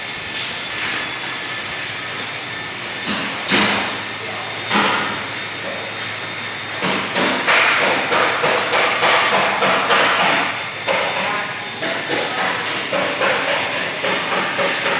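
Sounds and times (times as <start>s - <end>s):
fans humming: 0.0s - 14.9s.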